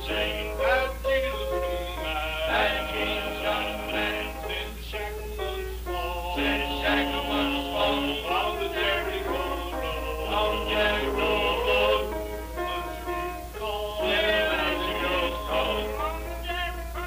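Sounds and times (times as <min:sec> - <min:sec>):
men singing: 0:00.0 - 0:17.0
steady low hum: 0:00.0 - 0:17.0.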